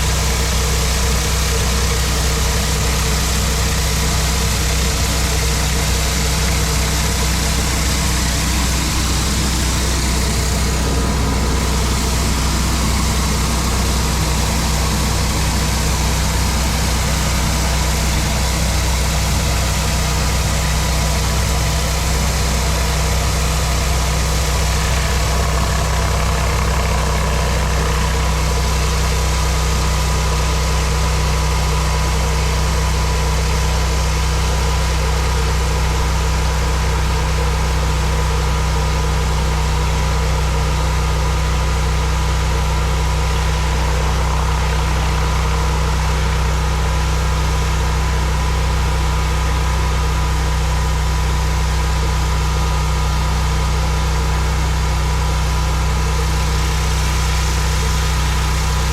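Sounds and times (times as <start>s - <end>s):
pressure washer engine: 0.0s - 58.9s.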